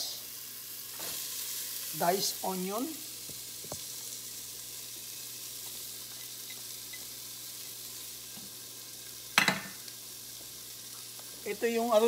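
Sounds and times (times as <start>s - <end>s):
onions sizzling in a pot: 0.0s - 12.0s.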